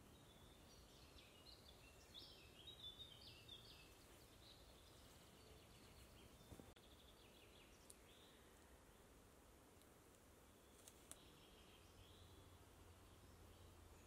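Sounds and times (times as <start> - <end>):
birds chirping and trilling: 0.0 - 9.2, 10.4 - 14.0
low background hiss: 0.0 - 14.0.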